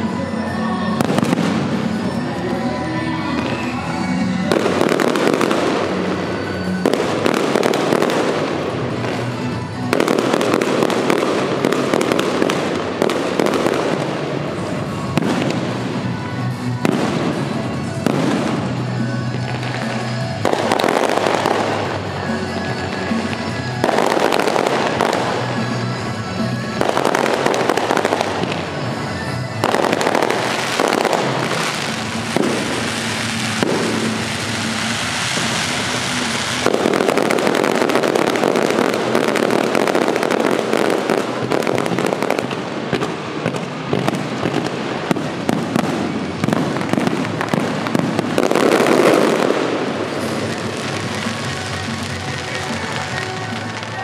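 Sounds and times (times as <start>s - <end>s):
fireworks bursting overhead: 0.0s - 54.0s
music playing: 0.0s - 54.0s.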